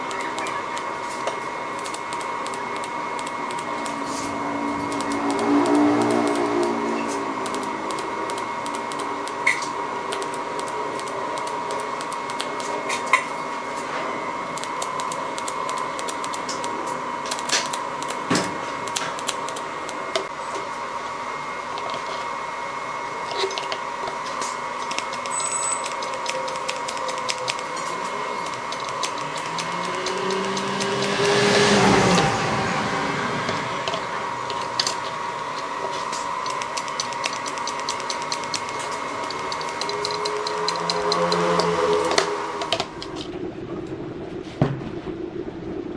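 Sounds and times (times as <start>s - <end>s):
welding arc buzzing: 0.0s - 43.3s
thin constant whine: 0.0s - 45.9s.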